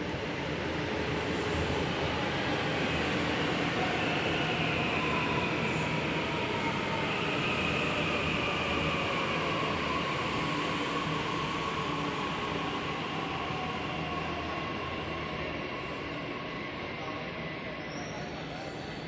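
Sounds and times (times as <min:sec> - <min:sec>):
faint high train whines: 0:00.0 - 0:19.0.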